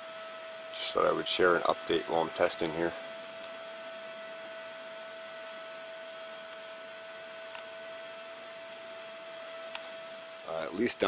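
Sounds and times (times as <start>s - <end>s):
constant fan whine: 0.0s - 11.0s
fans rushing air: 0.7s - 11.0s.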